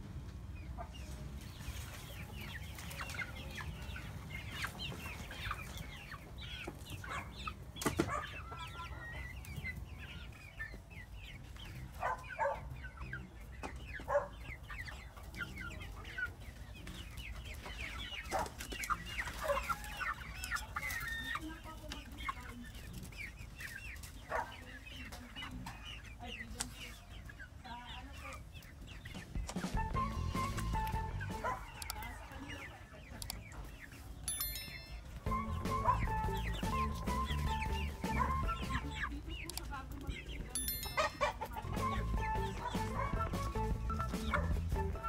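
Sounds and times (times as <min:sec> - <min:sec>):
hens clucking and trilling: 0:00.0 - 0:45.0.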